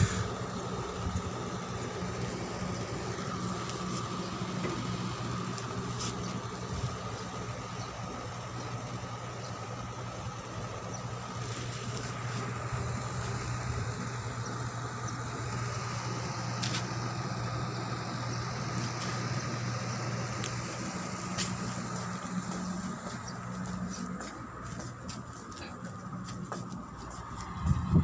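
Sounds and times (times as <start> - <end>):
ship machinery drone: 0.0 - 28.0.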